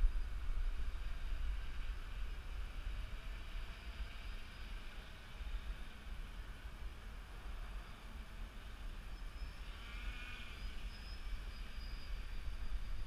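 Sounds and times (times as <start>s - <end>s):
wind rumbling on microphone: 0.0s - 7.8s, 9.8s - 13.0s.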